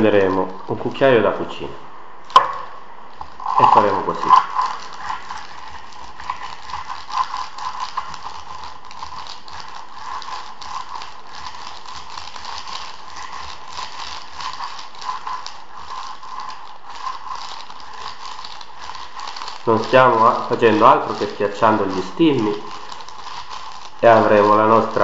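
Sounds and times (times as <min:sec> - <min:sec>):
paper crinkling: 0:00.0 - 0:01.7, 0:02.3 - 0:25.0.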